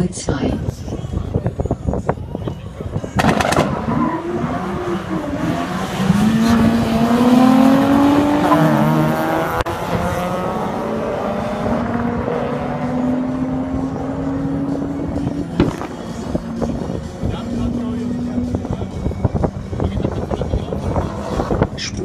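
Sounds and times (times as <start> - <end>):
cars accelerating hard: 3.1 - 22.0.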